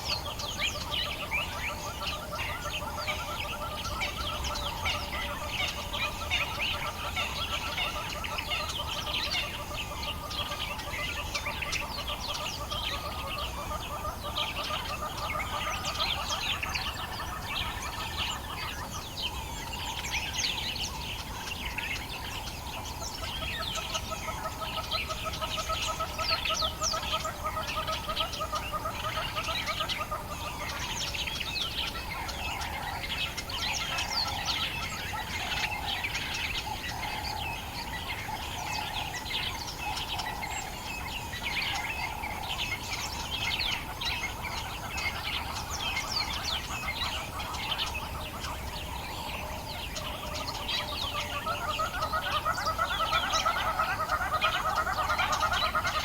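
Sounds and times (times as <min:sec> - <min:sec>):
birds chirping and calling: 0:00.0 - 0:56.0
pulsed rattling bird call: 0:00.0 - 0:56.0.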